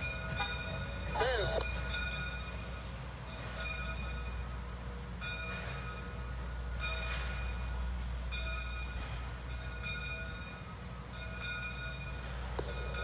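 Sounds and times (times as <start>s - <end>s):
locomotive bell ringing: 0.0s - 13.0s
steam locomotive rumble: 0.0s - 13.0s.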